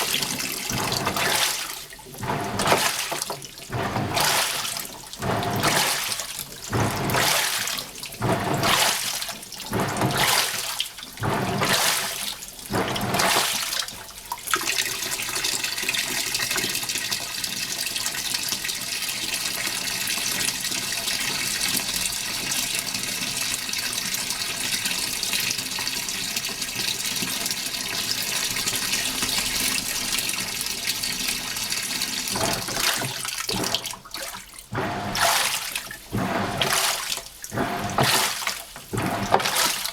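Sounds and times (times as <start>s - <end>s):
water pouring into tub: 0.0s - 18.7s, 25.4s - 39.9s
washing machine water sloshing: 0.0s - 39.9s.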